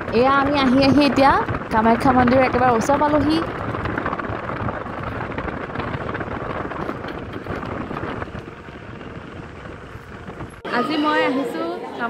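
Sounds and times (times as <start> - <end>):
vehicle engine and road noise: 0.0 - 10.7.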